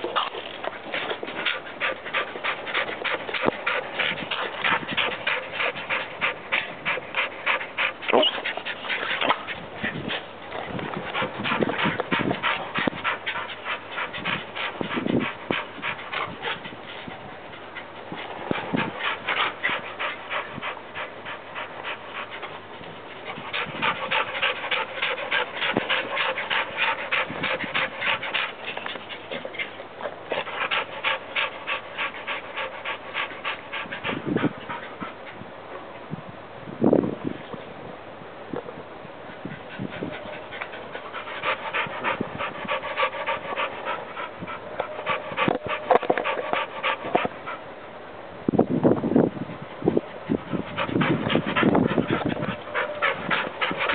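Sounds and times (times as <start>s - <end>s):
dog panting: 0.0s - 35.5s, 39.3s - 47.7s, 49.8s - 53.9s.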